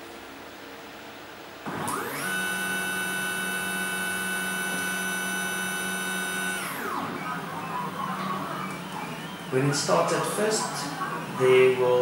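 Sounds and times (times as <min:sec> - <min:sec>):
stepper motors whining: 0:01.7 - 0:12.0.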